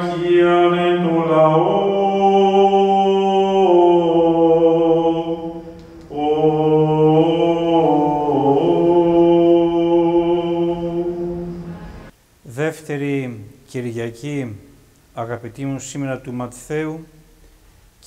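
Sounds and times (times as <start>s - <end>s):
man chanting: 0.0s - 11.8s, 12.5s - 17.2s.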